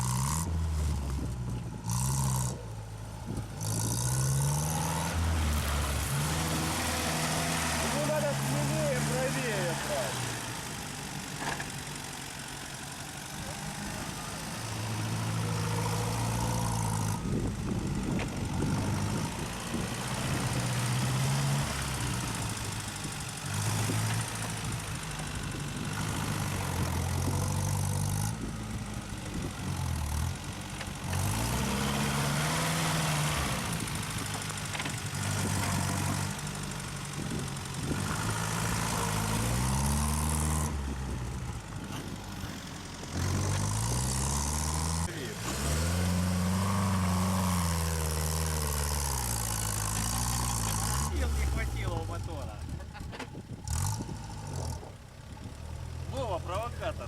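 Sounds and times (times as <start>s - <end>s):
off-road engine revving hard: 0.0s - 57.0s.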